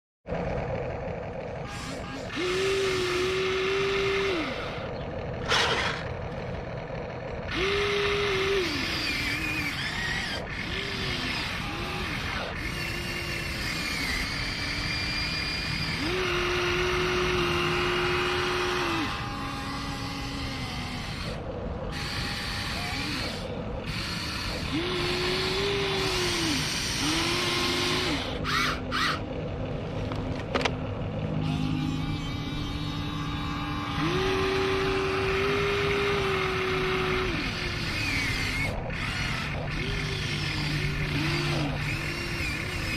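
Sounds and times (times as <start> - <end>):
electric motors whining: 0.3 - 42.9.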